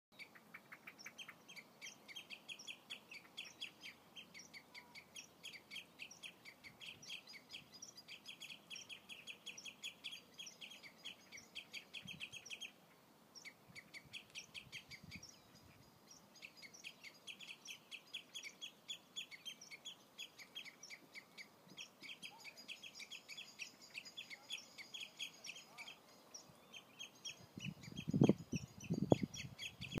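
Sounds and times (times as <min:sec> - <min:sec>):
redshanks piping calls: 0:00.2 - 0:30.0.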